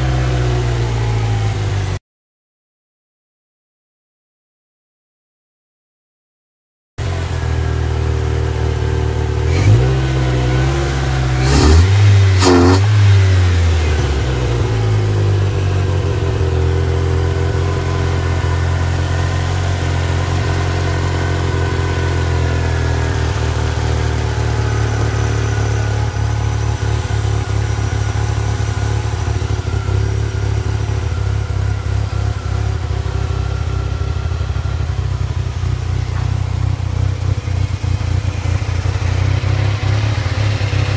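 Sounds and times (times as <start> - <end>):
engine revving and rough idle: 0.0 - 2.0, 7.0 - 40.9.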